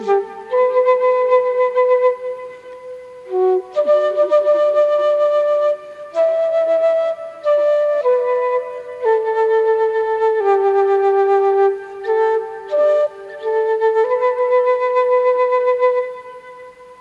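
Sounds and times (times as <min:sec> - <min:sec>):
solo flute slow melody: 0:00.0 - 0:17.0.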